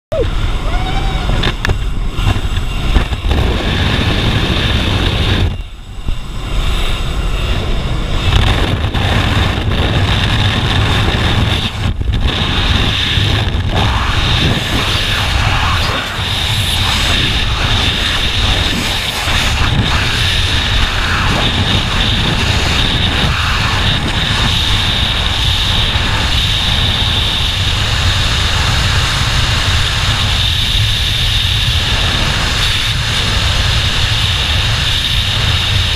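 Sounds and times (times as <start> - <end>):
plane engine droning: 0.0 - 35.9
loud wind rush: 0.1 - 35.9.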